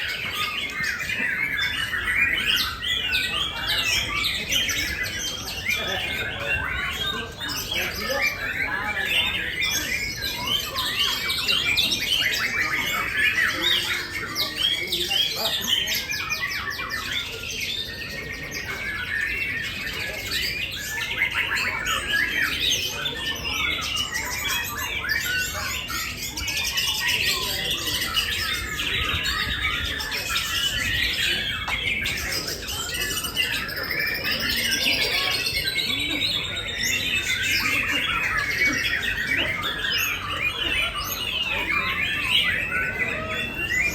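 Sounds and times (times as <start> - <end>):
songbirds chorus: 0.0 - 43.9.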